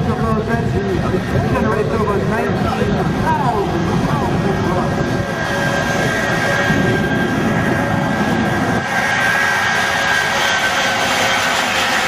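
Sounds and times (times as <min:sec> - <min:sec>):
jet engines rushing and whining: 0:00.0 - 0:12.0.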